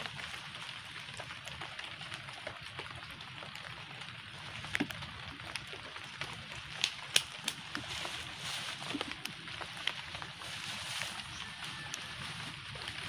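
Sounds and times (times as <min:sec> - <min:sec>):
rain falling on leaves: 0:00.0 - 0:13.0.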